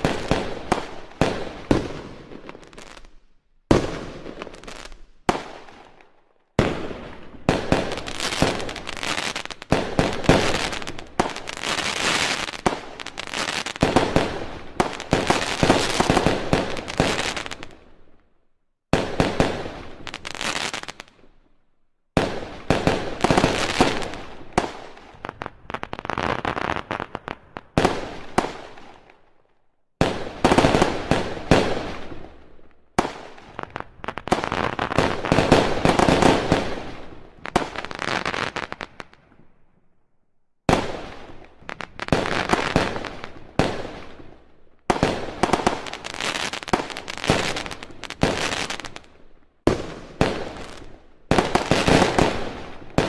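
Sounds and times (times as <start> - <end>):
fireworks cracking and banging: 0.0 - 17.9, 18.9 - 21.3, 22.2 - 29.1, 33.0 - 39.3, 40.7 - 53.0.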